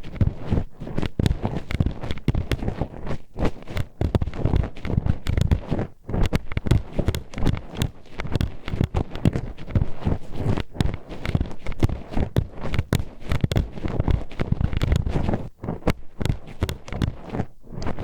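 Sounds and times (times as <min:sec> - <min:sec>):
hairpin clacking on microphone: 0:00.0 - 0:18.0.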